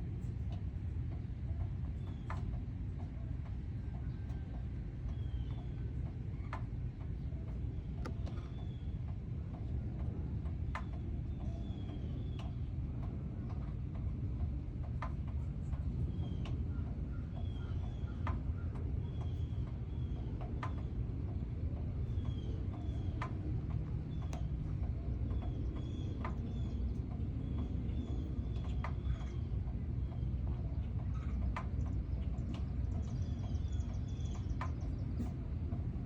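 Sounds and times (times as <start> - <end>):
steady low rumble: 0.0 - 36.0
small birds chirping: 1.1 - 13.8, 14.4 - 36.0.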